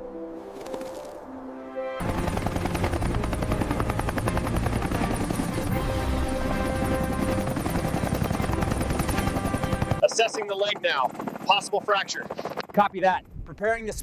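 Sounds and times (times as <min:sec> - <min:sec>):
helicopter rotor chopping: 0:02.0 - 0:14.0.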